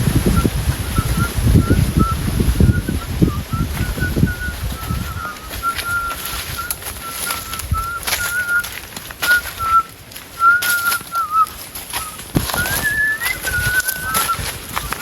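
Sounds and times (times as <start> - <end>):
high wavering whistle-like tone: 0.4 - 15.0.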